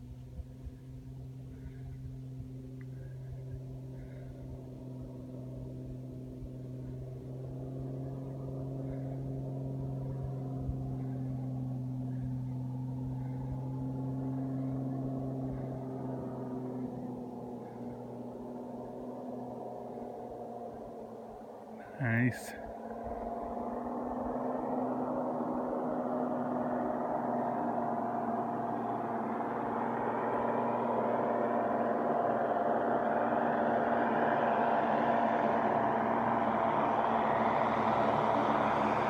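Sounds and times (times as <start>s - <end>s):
propeller plane engine drone: 0.0s - 39.0s.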